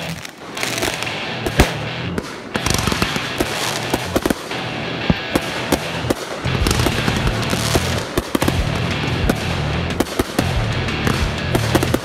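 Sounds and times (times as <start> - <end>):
fireworks crackling: 0.0 - 12.0
fireworks popping and banging: 0.0 - 12.0
music with heavy bass: 0.0 - 12.0.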